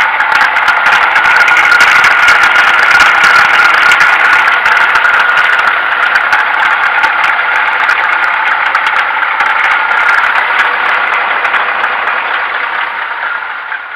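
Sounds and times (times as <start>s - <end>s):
clattering engine ticks: 0.0s - 13.9s
diesel truck engine idling: 0.0s - 13.9s.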